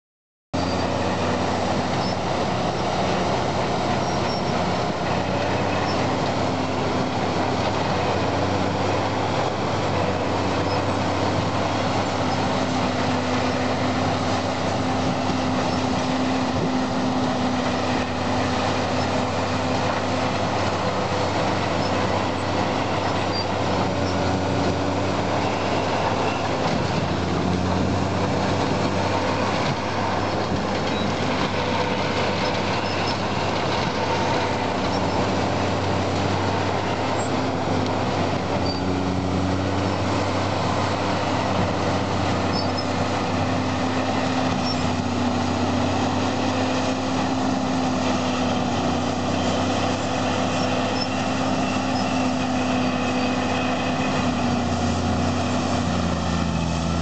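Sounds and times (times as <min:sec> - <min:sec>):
diesel engine running under load: 0:00.6 - 0:57.0.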